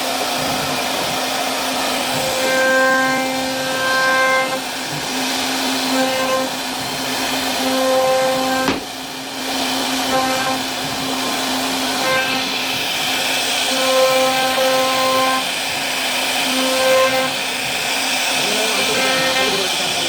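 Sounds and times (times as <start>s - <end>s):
wood cutting hiss: 0.0s - 20.0s
router motor whine: 1.7s - 20.0s.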